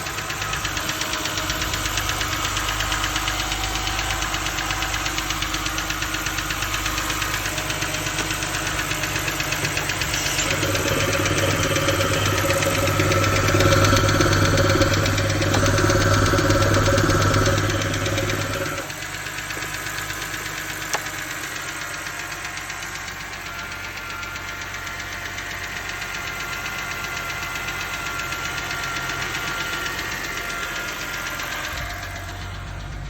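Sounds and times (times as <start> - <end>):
engine running with rapid knock: 0.0 - 33.0.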